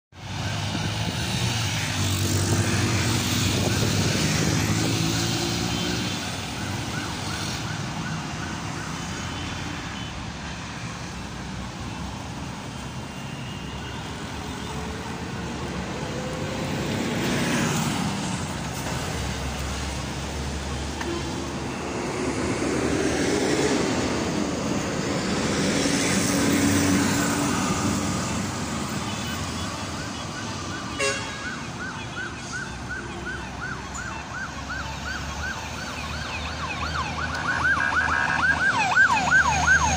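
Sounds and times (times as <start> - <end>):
passing vehicle engines: 0.2 - 39.9.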